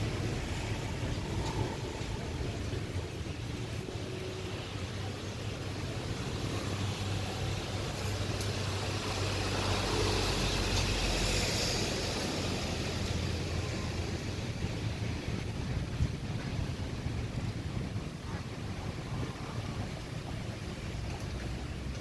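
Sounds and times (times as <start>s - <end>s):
low engine drone: 0.0s - 22.0s
wind: 0.0s - 22.0s.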